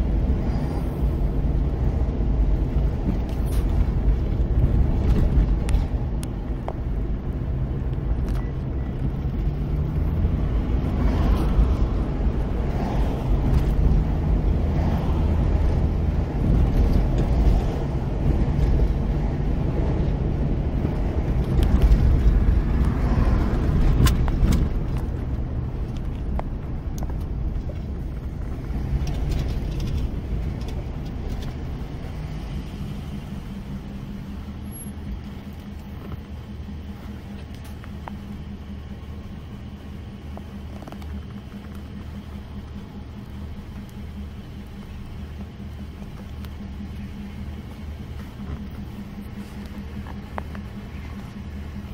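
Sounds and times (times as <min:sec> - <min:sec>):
car tyres and engine rumble: 0:00.0 - 0:51.9.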